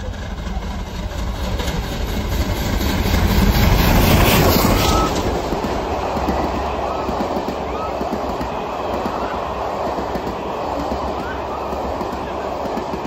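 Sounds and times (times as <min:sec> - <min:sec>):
steam locomotive passing: 0:00.0 - 0:13.0
train coaches rumbling over rails: 0:00.0 - 0:13.0.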